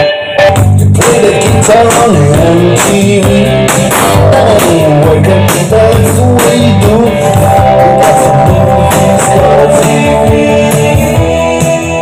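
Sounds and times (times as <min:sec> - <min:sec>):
song with singing and guitar: 0:00.0 - 0:12.0.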